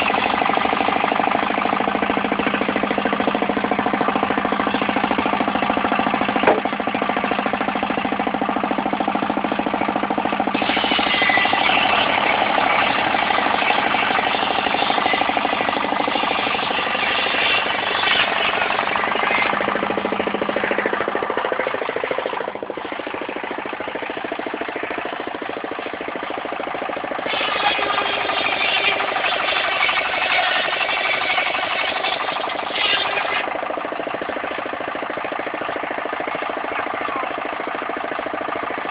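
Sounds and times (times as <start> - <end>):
saw blade cutting timber: 0.0 - 35.6
sawmill engine running: 0.0 - 38.9.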